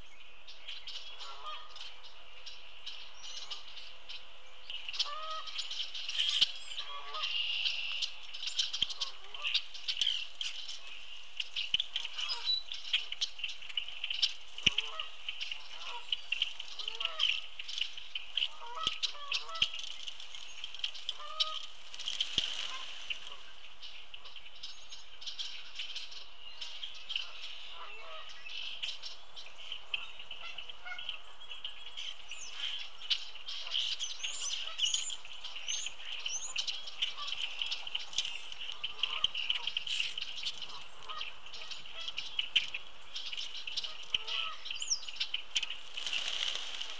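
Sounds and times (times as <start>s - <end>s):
blackbirds chattering: 0.0s - 46.9s
lower curving bird calls: 0.0s - 46.9s.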